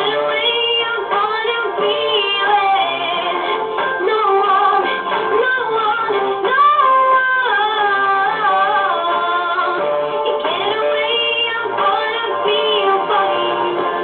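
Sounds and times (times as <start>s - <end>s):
girl singing: 0.0s - 14.0s.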